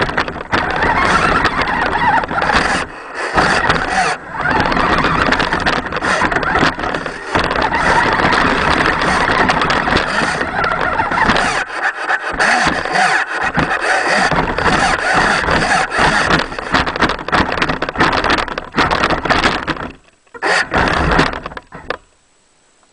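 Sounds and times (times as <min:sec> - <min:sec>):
toy truck motor running: 0:00.0 - 0:17.7, 0:20.4 - 0:21.8
knocks and rattles: 0:00.0 - 0:22.1.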